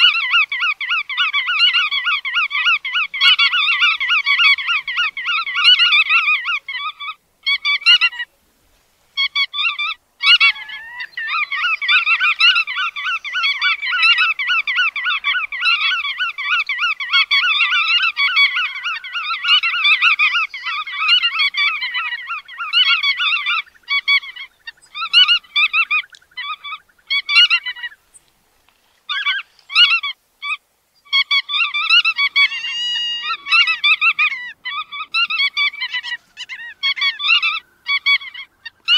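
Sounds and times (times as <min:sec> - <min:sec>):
godwits calling: 0:00.0 - 0:08.3, 0:09.2 - 0:28.2, 0:29.1 - 0:38.9.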